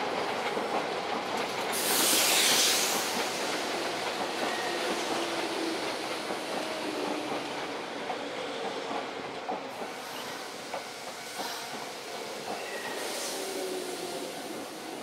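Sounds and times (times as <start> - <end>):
train rumbling on tracks: 0.0 - 15.0.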